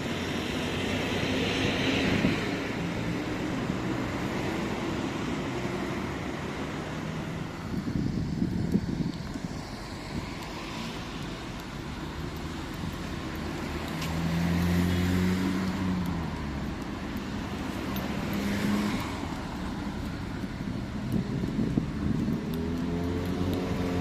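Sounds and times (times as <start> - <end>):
vehicle engine hum: 0.0 - 24.0
vehicles passing on road: 0.0 - 24.0.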